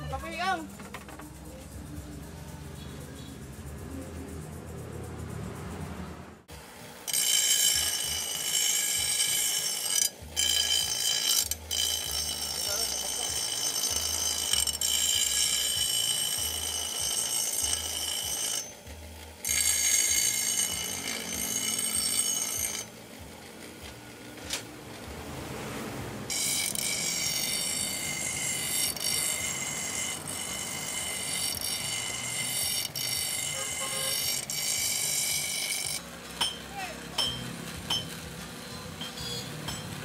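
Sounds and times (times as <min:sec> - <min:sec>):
grinder wheel grinding steel blade: 0:06.4 - 0:25.4, 0:26.2 - 0:40.0.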